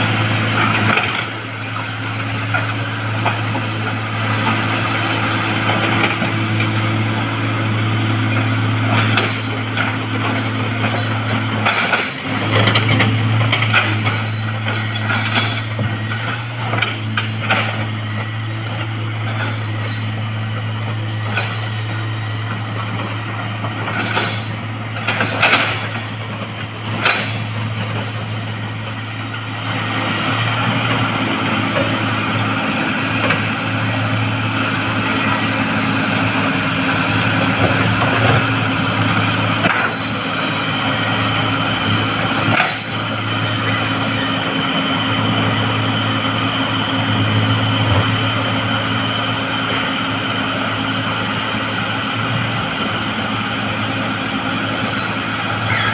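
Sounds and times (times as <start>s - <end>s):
diesel machinery running: 0.0s - 55.9s.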